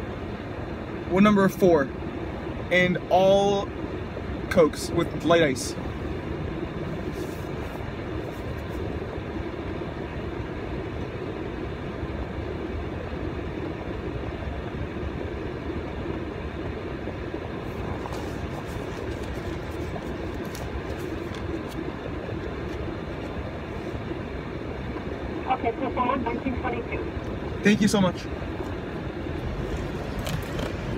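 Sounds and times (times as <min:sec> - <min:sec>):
car engine rumble inside cabin: 0:00.0 - 0:30.9.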